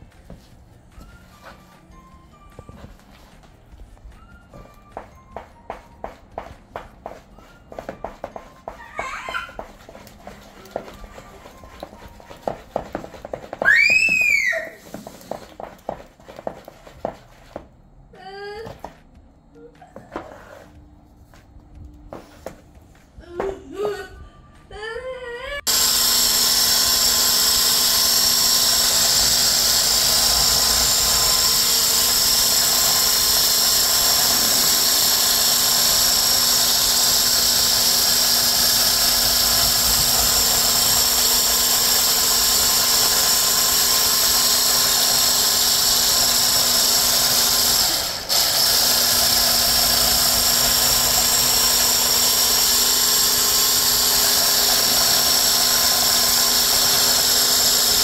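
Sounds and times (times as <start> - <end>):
stick blender whining: 0.0 - 17.7, 25.6 - 58.0.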